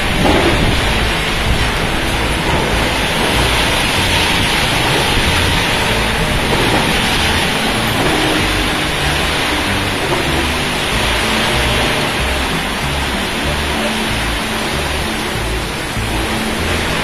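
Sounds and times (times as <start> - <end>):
heavy rain pouring: 0.0 - 17.0
wind buffeting microphone: 0.0 - 17.0.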